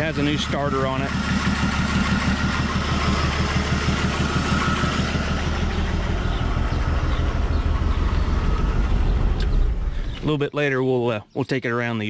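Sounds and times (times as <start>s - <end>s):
truck engine idling: 0.0s - 10.4s.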